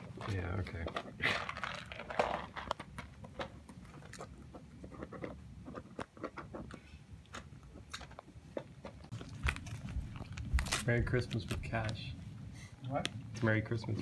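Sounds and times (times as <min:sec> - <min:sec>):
puppy chewing wrapping paper: 0:00.0 - 0:12.1.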